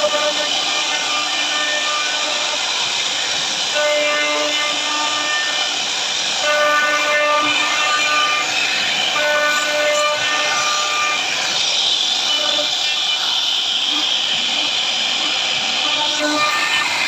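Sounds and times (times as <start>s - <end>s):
router cutting wood: 0.0s - 5.8s, 6.4s - 17.0s
pitched whine: 0.0s - 17.0s.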